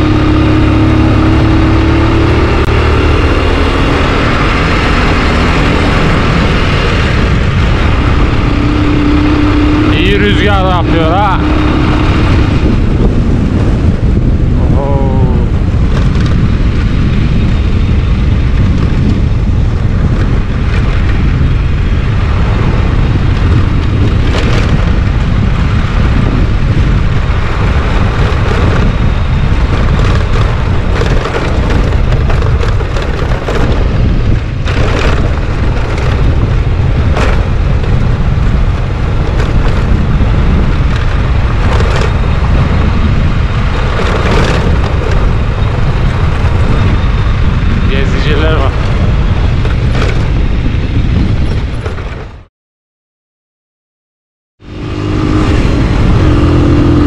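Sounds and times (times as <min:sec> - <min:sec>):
motorcycle running: 0:00.0 - 0:52.5, 0:54.6 - 0:57.0
wind buffeting microphone: 0:00.0 - 0:52.5, 0:54.6 - 0:57.0.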